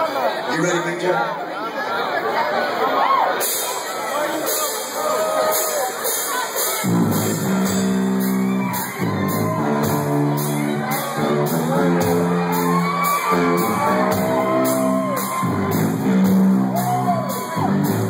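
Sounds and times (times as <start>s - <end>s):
drum and cymbal beat: 3.4s - 18.0s
rock band playing: 3.4s - 18.0s.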